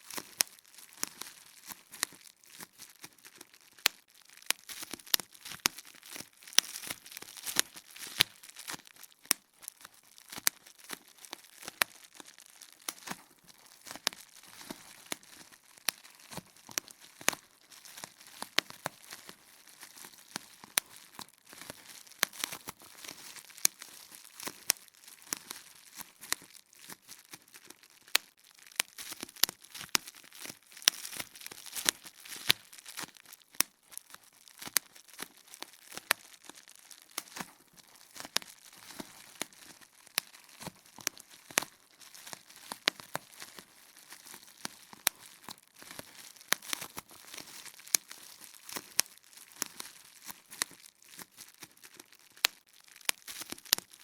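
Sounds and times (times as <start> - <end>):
bubble wrap popping: 0.0 - 54.0
plastic sheet crinkling: 0.0 - 54.0.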